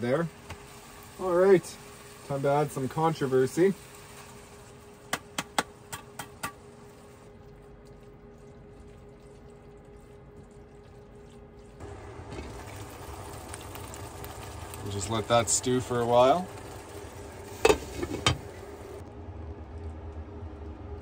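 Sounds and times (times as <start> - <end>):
food simmering in a skillet: 0.0 - 11.0, 11.6 - 21.0
faint hum: 0.0 - 21.0.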